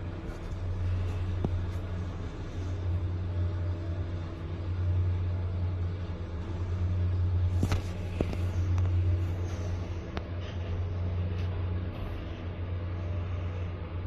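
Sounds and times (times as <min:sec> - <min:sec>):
elevator humming: 0:00.0 - 0:14.0.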